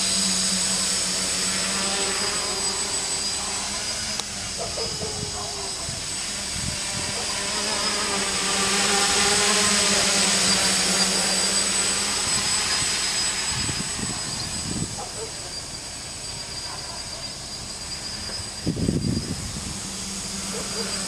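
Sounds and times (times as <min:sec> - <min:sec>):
quadcopter buzzing in flight: 0:00.0 - 0:21.0.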